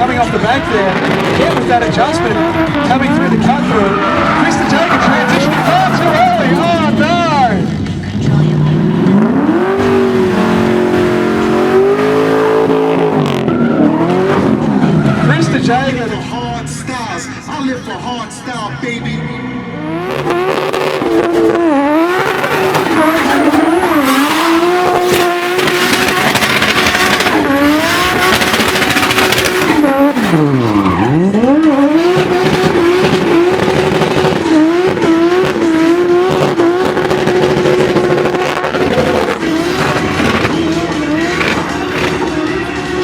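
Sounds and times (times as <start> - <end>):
car engine at high revs: 0.0 - 16.7, 19.1 - 43.0
tyres squealing and skidding: 0.0 - 43.0.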